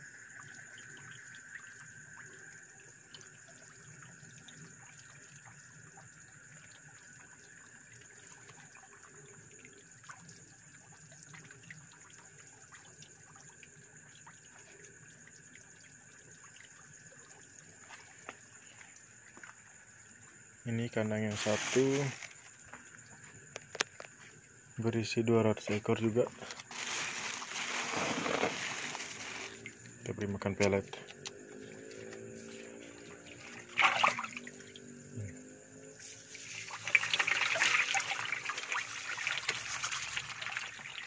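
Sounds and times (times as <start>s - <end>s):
fish splashing and slurping: 0.0s - 20.6s, 21.3s - 24.8s, 26.2s - 41.0s.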